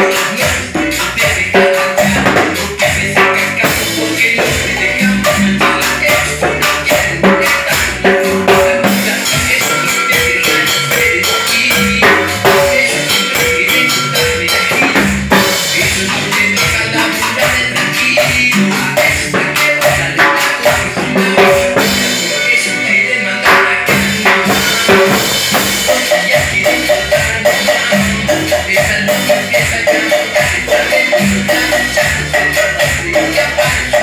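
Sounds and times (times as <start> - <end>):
timbales and cowbell hits: 0.0 - 22.8, 23.5 - 34.0
cumbia music recording: 0.0 - 34.0.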